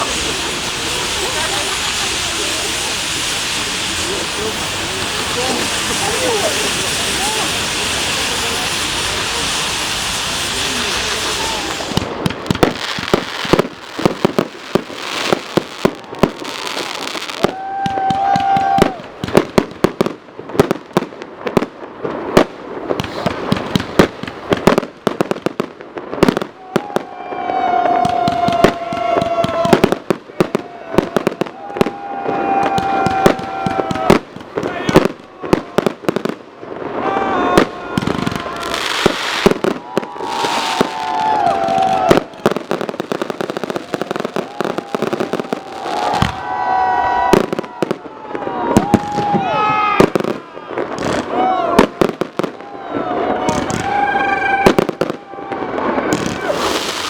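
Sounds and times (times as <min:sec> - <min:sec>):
fireworks bangs and crackles: 0:00.0 - 0:57.0
whistling firework: 0:00.0 - 0:57.0.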